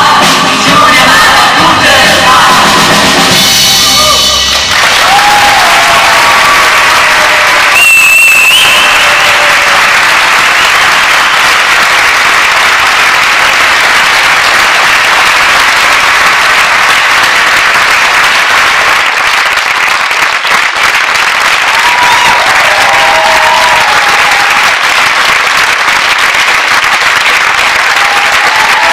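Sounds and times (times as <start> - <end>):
audience applauding: 4.0 - 28.9.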